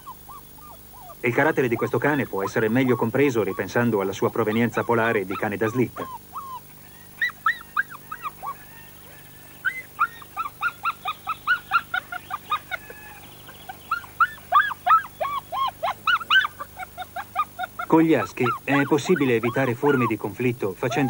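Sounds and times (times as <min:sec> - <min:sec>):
puppies yipping and whining: 0:00.0 - 0:21.0.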